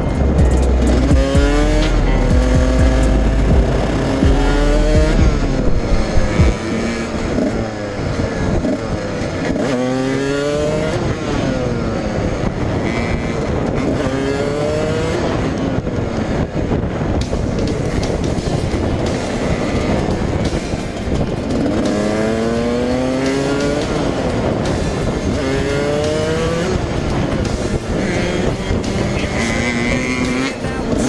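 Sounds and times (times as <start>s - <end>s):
dirt bike engine revving: 0.0s - 16.0s, 18.0s - 31.0s
wind and road noise: 0.0s - 31.0s.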